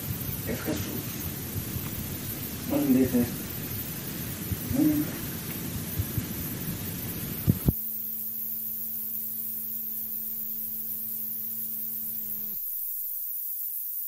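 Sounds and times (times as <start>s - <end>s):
electrical mains hum: 0.0s - 14.0s
hiss: 0.0s - 14.0s.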